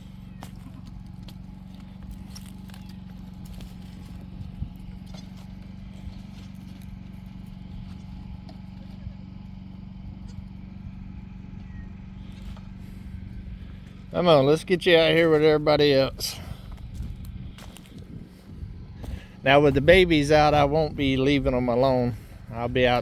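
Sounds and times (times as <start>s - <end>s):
goat hooves stepping on ground: 0.0s - 22.3s
steady low hum: 0.0s - 23.0s.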